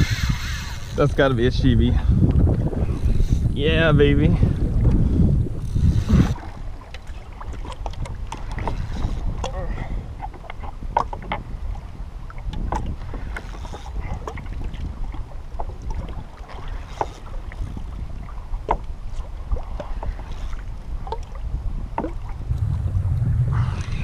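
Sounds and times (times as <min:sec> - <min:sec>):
water slapping against hull: 0:00.0 - 0:22.9
wind buffeting microphone: 0:00.0 - 0:24.0.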